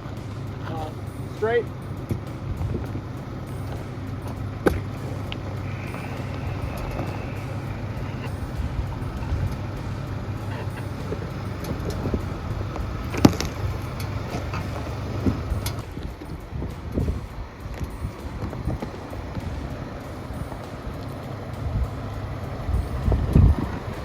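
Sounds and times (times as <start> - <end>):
pickup truck engine running: 0.0 - 24.0.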